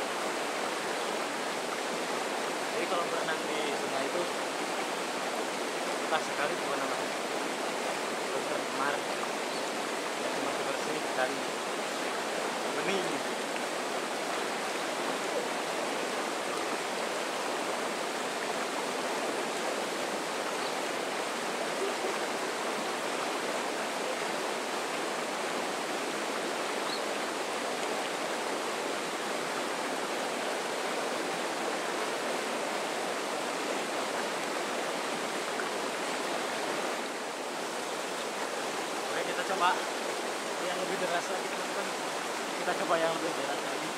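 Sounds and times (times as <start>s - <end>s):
river rapids rushing over rocks: 0.0s - 43.9s.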